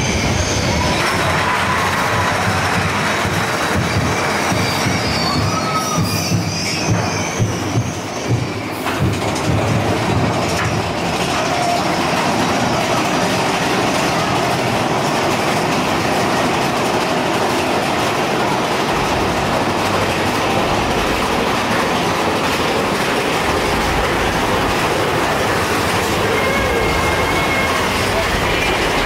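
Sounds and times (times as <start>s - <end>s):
roller coaster clattering on track: 0.0s - 29.0s.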